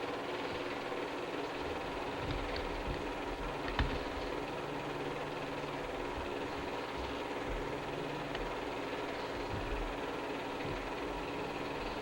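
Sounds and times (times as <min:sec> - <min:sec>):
film projector running: 0:00.0 - 0:12.0.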